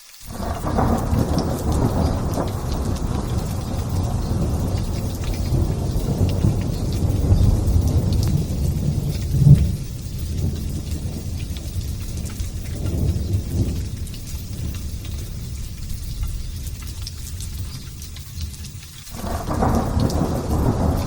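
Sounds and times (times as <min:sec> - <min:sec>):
light rain: 0:00.0 - 0:21.0
thunder rumbling: 0:00.3 - 0:21.0.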